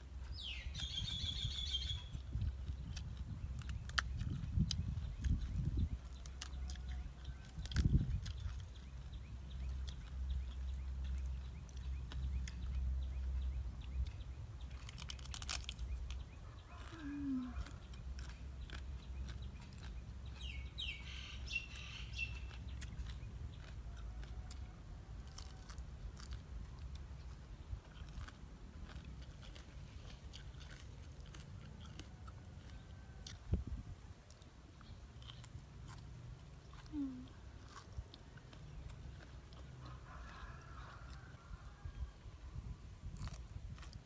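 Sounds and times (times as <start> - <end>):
birds chirping: 0.0 - 44.0
chewing raw vegetables: 0.0 - 44.0.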